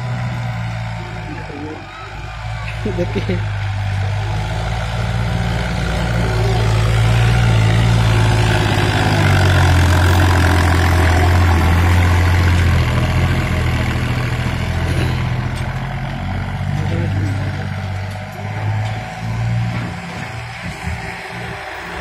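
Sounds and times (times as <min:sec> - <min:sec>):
tractor diesel engine passing: 0:00.0 - 0:22.0.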